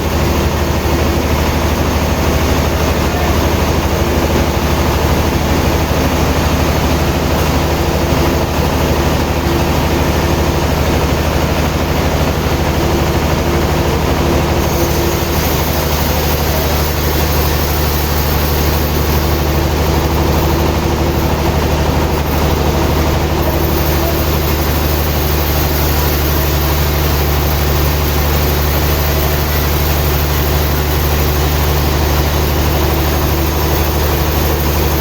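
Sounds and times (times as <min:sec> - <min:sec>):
sawmill machinery humming: 0:00.0 - 0:35.0.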